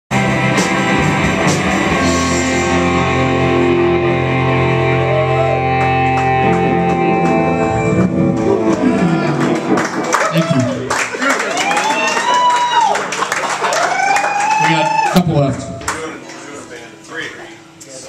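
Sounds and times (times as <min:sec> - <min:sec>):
rock band playing: 0:00.1 - 0:17.0.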